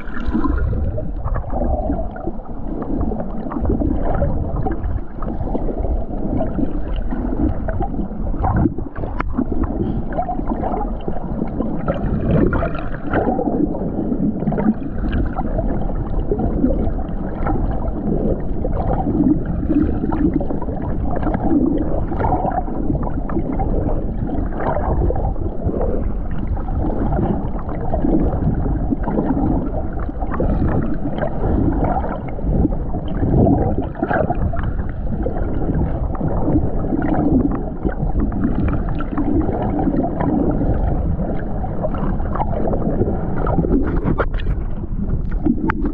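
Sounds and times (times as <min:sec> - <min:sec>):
muffled underwater gurgling: 0:00.0 - 0:45.9.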